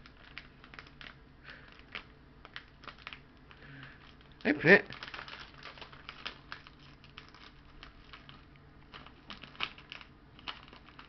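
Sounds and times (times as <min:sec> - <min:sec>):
foil gift-wrap crinkling: 0:00.0 - 0:11.0.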